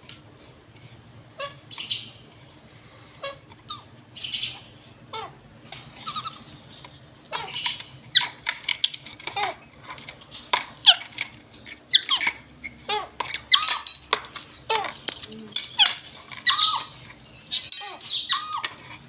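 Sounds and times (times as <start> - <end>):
parrots squeaky calls: 1.4 - 2.2, 2.8 - 19.0.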